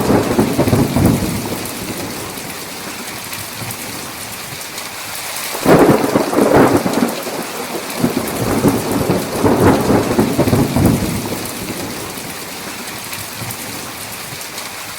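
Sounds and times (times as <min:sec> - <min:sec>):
thunder rumbling: 0:00.0 - 0:04.1, 0:05.5 - 0:13.9
heavy rain: 0:00.0 - 0:14.9.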